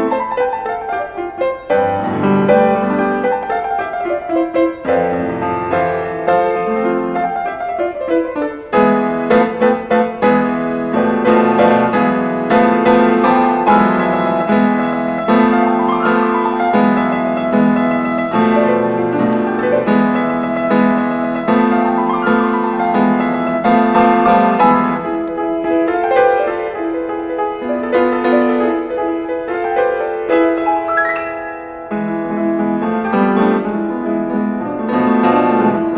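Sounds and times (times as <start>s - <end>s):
piano piece: 0.0s - 35.9s.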